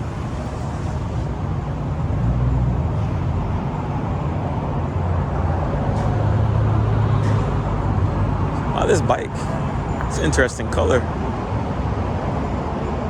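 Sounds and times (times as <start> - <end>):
car engines rumbling: 0.0 - 13.0
traffic noise: 0.0 - 13.0.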